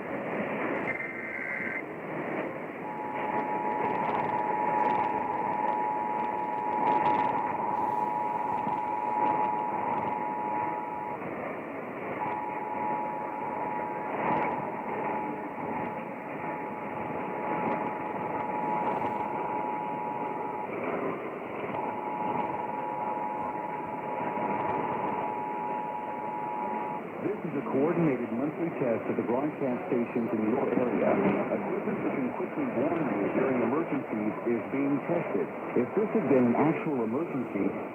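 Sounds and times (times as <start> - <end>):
radio hiss: 0.0 - 37.9.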